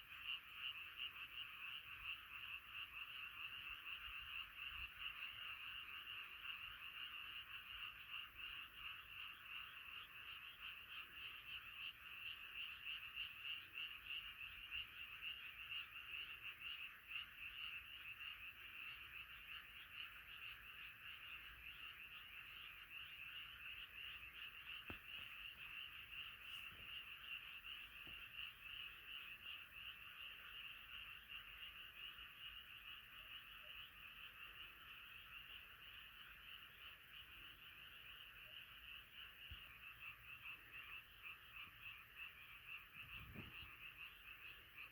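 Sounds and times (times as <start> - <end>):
chorus of frogs calling: 0.0 - 44.9.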